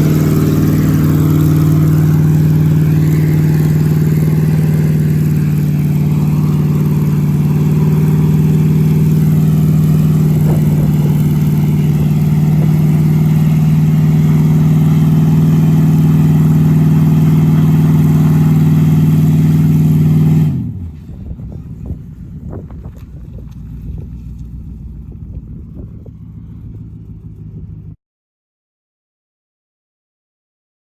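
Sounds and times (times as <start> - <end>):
vehicle engine at high revs: 0.0 - 28.0.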